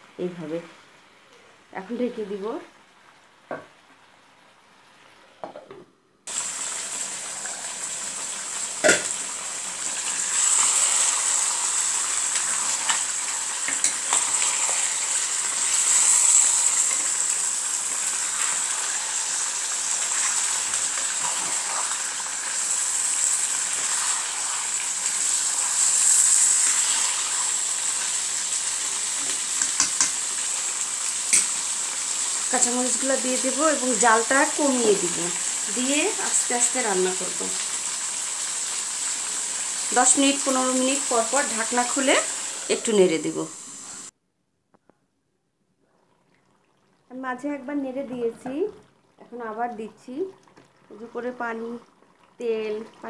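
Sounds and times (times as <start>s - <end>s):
curry sizzling in pan: 6.3s - 44.1s, 46.1s - 53.0s.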